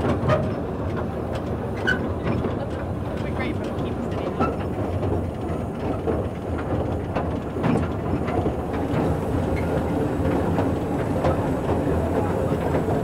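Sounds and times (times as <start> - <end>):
steam train rumbling: 0.0 - 13.0
train clicks and knocks: 0.0 - 13.0.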